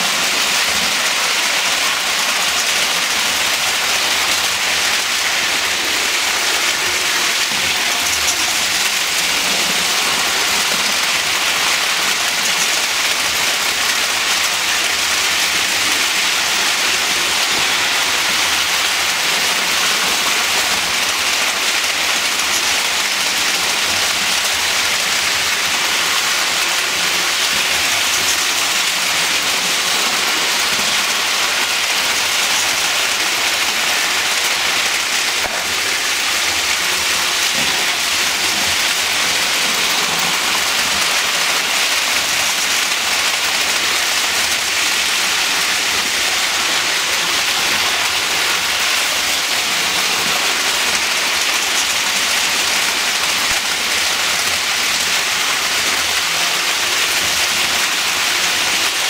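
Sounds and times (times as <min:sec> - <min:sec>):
toy train wheels rolling on rails: 0:00.0 - 0:59.0.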